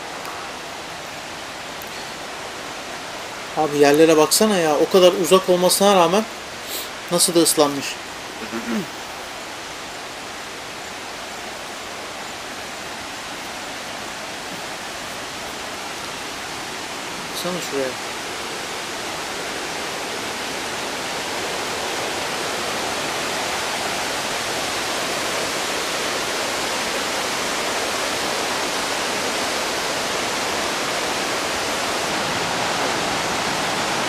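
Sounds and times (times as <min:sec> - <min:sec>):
rush of falling water: 0:00.0 - 0:34.0.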